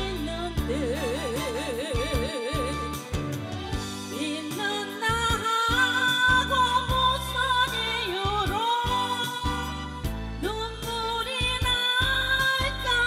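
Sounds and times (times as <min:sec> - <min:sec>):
instrumental backing: 0:00.0 - 0:13.0
woman singing into a microphone: 0:00.0 - 0:13.0.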